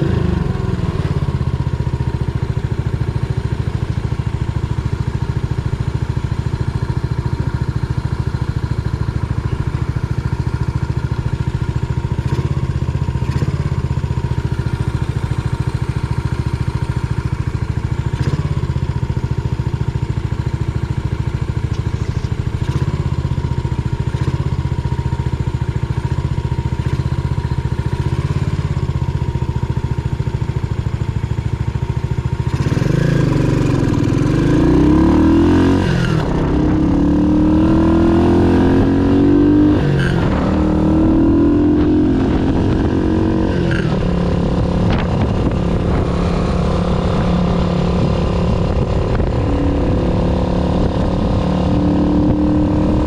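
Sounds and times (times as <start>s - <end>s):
motorcycle engine idling: 0.0s - 51.8s.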